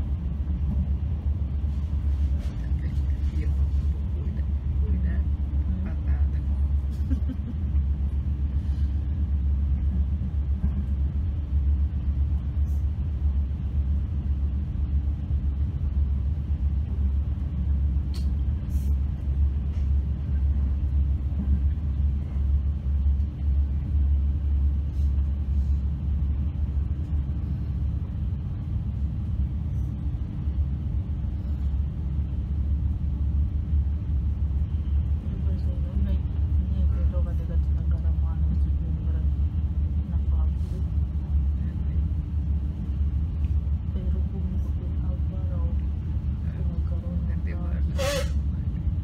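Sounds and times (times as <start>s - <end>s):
train rumbling inside carriage: 0.0s - 49.0s.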